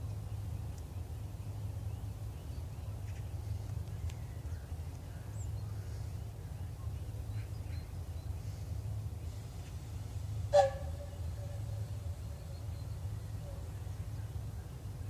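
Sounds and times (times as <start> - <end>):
electric locomotive rumble: 0.0 - 15.0.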